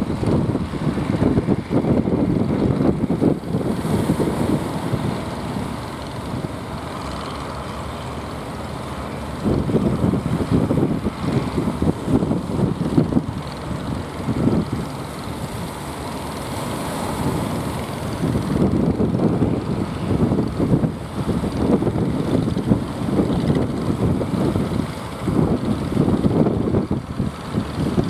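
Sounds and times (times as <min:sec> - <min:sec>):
boat engine rumble: 0:00.0 - 0:28.0
wind buffeting microphone: 0:00.0 - 0:28.0.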